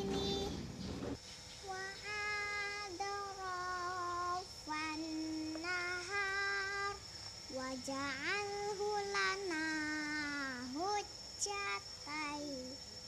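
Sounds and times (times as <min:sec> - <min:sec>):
girl singing: 0:00.0 - 0:00.8, 0:01.6 - 0:12.9.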